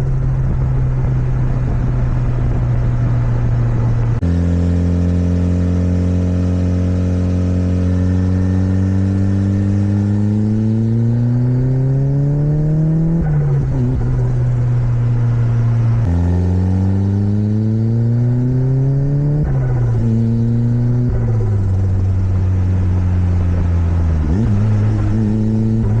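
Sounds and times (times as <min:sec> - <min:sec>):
turbocharged car engine accelerating: 0:00.0 - 0:26.0.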